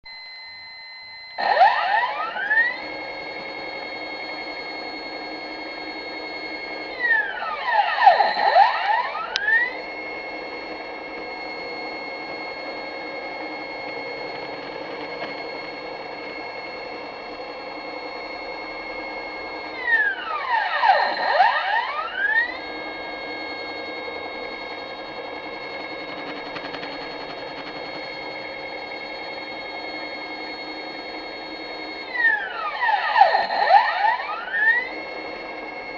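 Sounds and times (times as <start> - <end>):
stepper motors whining: 0.1 - 35.9.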